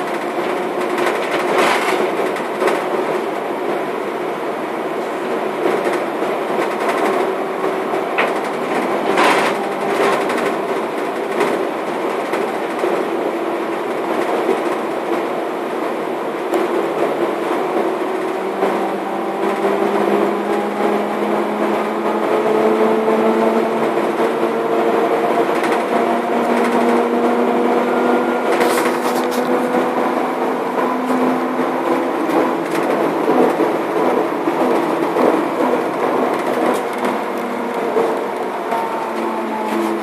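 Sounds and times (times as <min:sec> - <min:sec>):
road rumble: 0:00.0 - 0:40.0.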